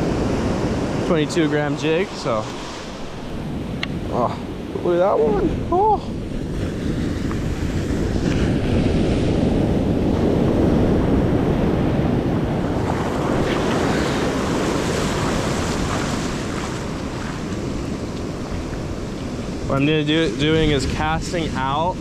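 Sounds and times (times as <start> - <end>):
ocean surf washing on beach: 0.0 - 22.0
wind buffeting microphone: 0.0 - 22.0.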